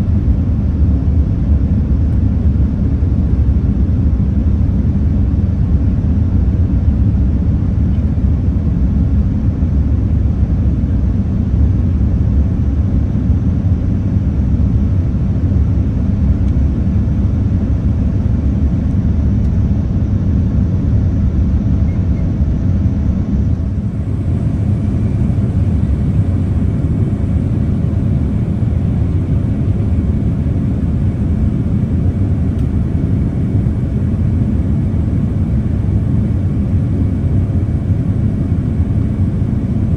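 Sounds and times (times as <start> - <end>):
airliner cabin jet engine rumble: 0.0 - 39.9.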